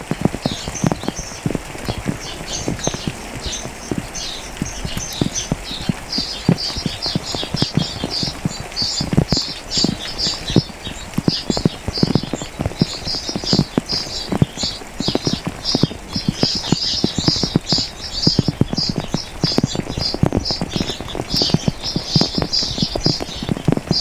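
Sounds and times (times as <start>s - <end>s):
rain dripping: 0.0s - 24.0s
small birds chirping: 0.0s - 24.0s.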